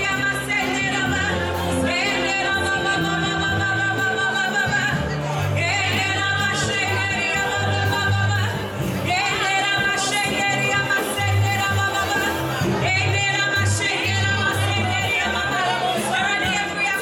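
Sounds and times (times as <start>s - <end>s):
gospel voices singing: 0.0s - 17.0s.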